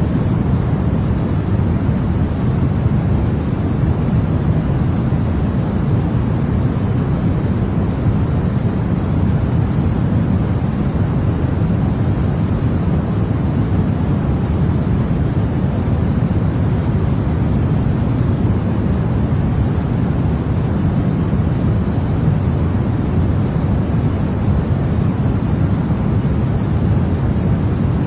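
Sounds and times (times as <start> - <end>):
low white noise rush: 0.0 - 28.0.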